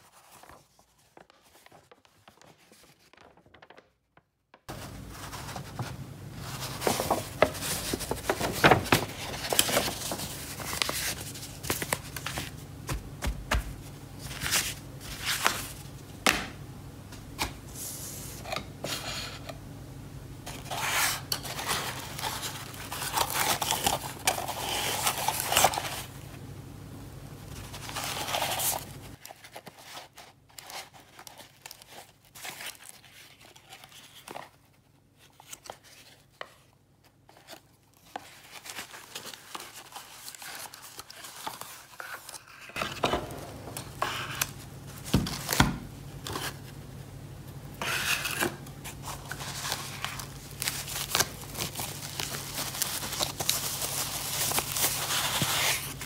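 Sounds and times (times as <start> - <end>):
cardboard packaging rustling: 0.0 - 16.0, 20.5 - 26.2, 27.5 - 46.8, 47.8 - 56.0
low background hum: 0.0 - 56.0.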